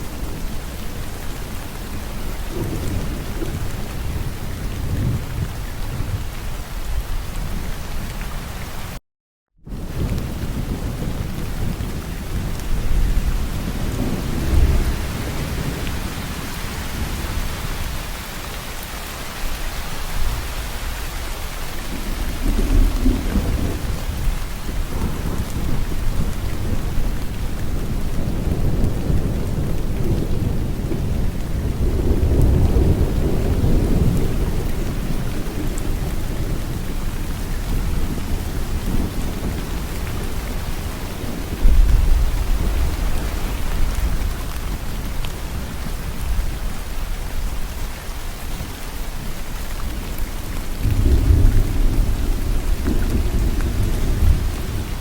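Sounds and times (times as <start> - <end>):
low rolling thunder: 0.0 - 6.3, 9.7 - 18.4, 20.0 - 55.0
heavy rainfall: 0.0 - 9.0, 9.7 - 55.0.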